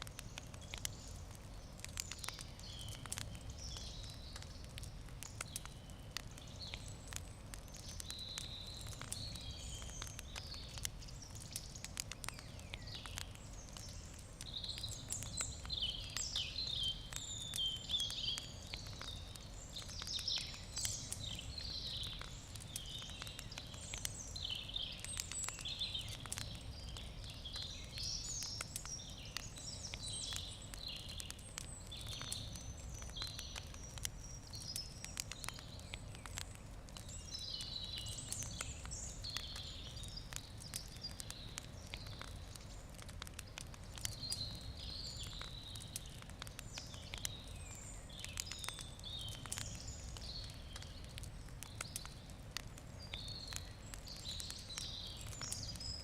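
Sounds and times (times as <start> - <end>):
campfire crackling and popping: 0.0 - 56.0
songbirds chirping: 0.0 - 56.0.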